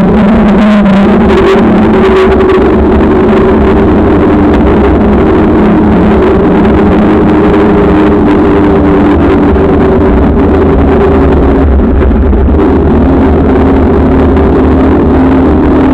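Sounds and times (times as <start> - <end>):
wind buffeting microphone: 0.9 - 15.9.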